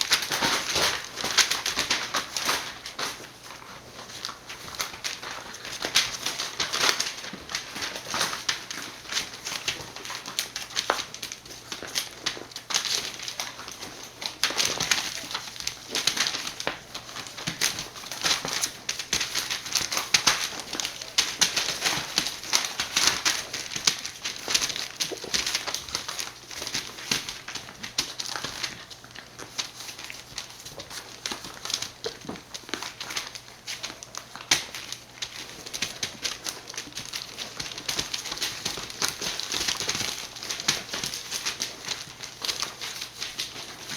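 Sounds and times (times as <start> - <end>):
puppies playing: 0.0 - 43.9.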